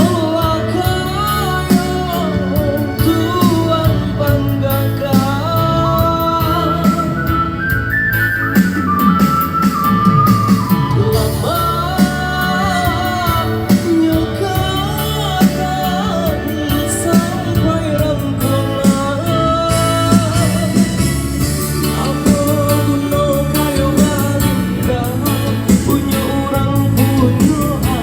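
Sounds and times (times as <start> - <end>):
bass: 0.0 - 28.0
person singing: 0.0 - 28.0
steady beat: 0.0 - 28.0.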